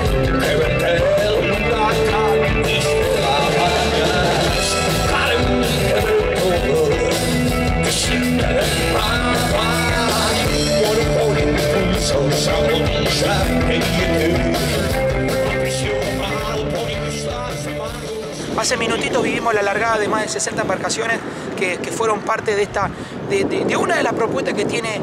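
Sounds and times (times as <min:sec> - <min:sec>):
rock music: 0:00.0 - 0:20.8.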